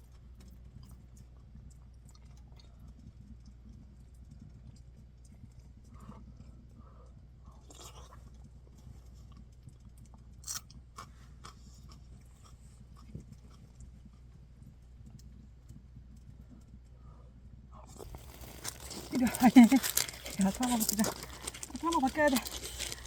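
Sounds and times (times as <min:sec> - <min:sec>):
chewing and crunching: 0:00.0 - 0:17.0, 0:17.8 - 0:23.0.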